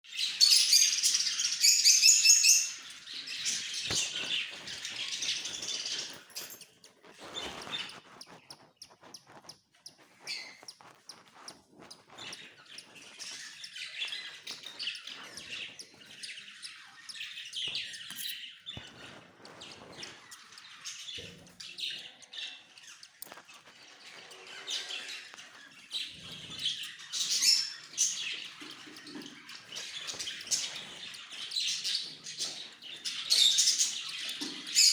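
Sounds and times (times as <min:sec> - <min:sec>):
parrots chirping and twittering: 0:00.1 - 0:34.9.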